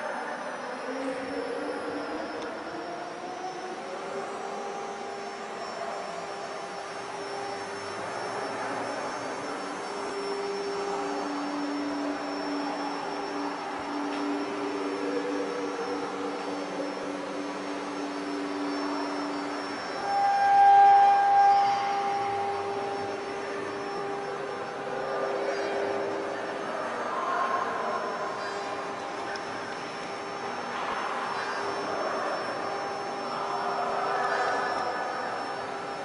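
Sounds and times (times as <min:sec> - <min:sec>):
cnc router spindles whining: 0:00.0 - 0:36.0
second lower tone: 0:07.0 - 0:36.0.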